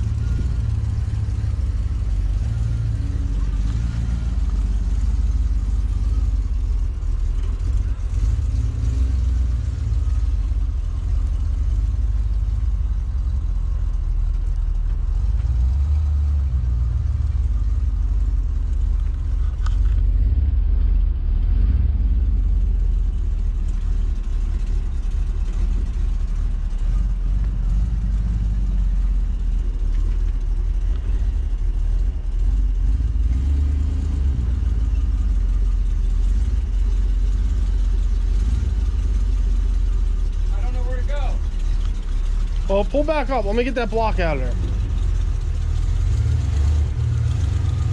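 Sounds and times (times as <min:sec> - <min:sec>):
engine rumbling at low speed: 0:00.0 - 0:47.9.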